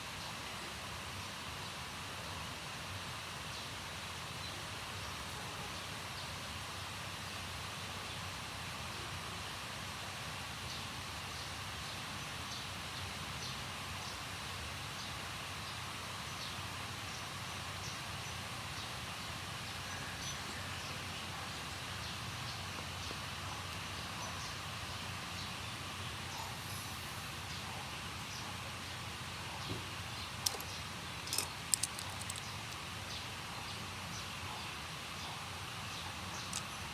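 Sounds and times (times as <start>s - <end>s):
steady background noise: 0.0s - 36.9s.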